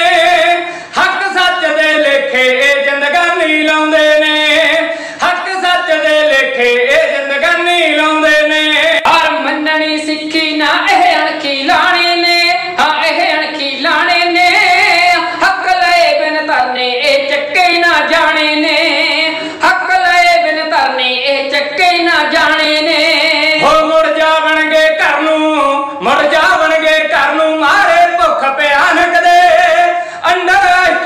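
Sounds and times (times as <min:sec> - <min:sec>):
men singing in high voices: 0:00.0 - 0:31.0.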